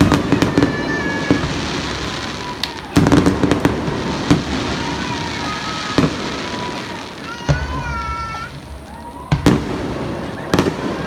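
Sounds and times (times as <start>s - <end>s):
firework bang: 0.0s - 11.0s
fireworks crackling: 0.0s - 11.0s
sharp firework pops: 0.0s - 11.0s.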